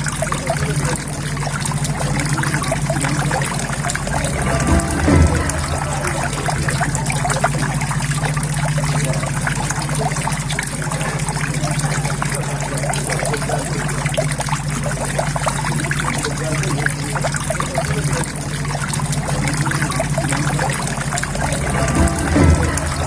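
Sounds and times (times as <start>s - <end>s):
steady low hum: 0.0s - 23.0s
water trickling into pond: 0.0s - 23.0s.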